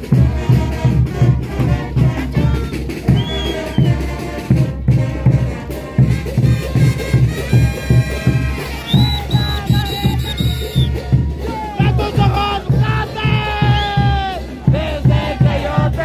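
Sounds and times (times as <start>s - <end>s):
bass drum beat: 0.0s - 16.0s
brass band playing dance music: 0.0s - 16.0s.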